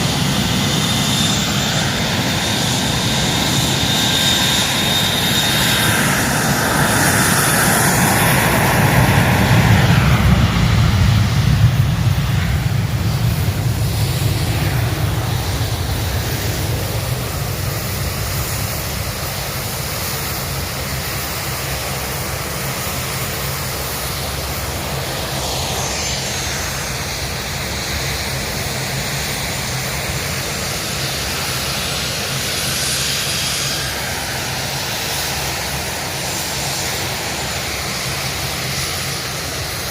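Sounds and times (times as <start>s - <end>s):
plane flying past: 0.0s - 39.9s.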